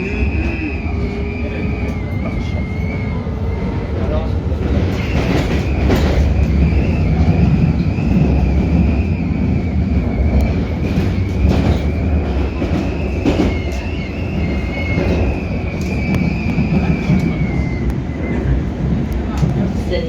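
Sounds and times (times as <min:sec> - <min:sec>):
high-pitched whistle: 0:00.0 - 0:04.2, 0:04.9 - 0:18.9
train running rumble: 0:00.0 - 0:20.0.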